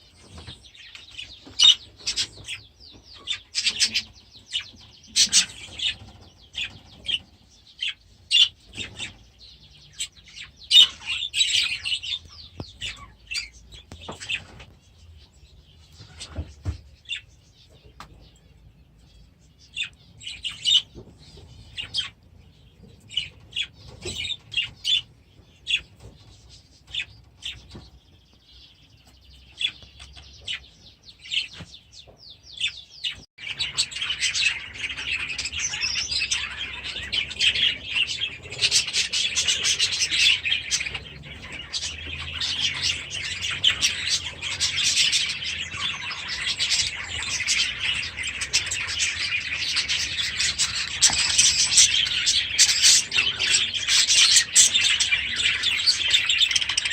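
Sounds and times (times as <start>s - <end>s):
budgerigars chirping: 0.2s - 18.4s, 19.0s - 56.9s.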